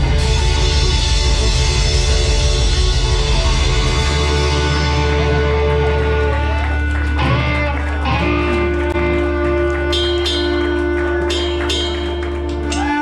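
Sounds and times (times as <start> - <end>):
bending guitar notes: 0.0 - 13.0
blues band holding chord: 0.0 - 13.0.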